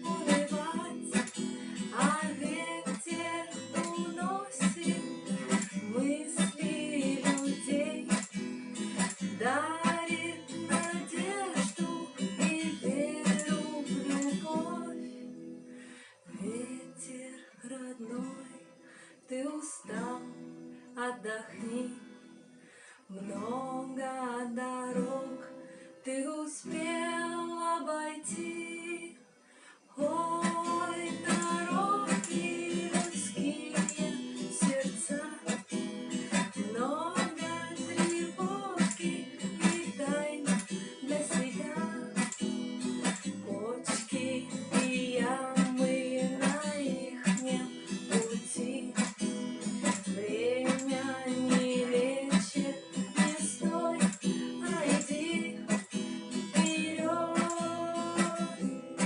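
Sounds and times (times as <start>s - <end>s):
acoustic guitar strumming chords: 0.0s - 19.1s, 26.6s - 59.0s.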